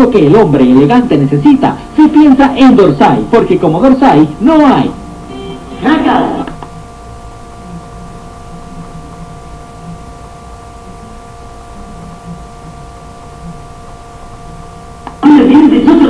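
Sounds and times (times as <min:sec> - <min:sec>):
constant hiss: 0:00.0 - 0:16.0
electrical hum: 0:00.0 - 0:16.0.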